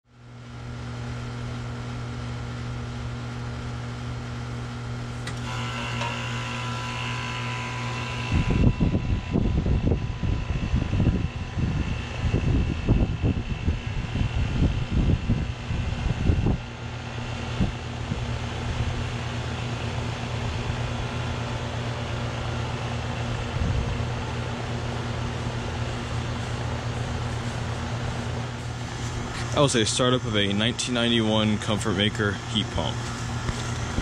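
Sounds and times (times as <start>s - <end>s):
heat pump low hum: 0.1s - 34.0s
fan air buffeting microphone: 0.2s - 34.0s.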